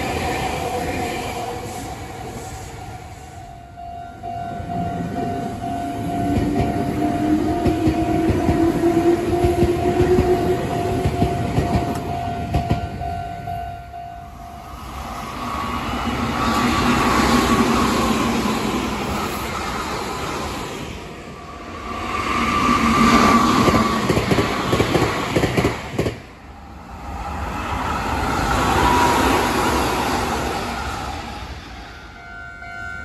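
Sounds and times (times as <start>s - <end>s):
train wheels rumbling: 0.0s - 32.8s.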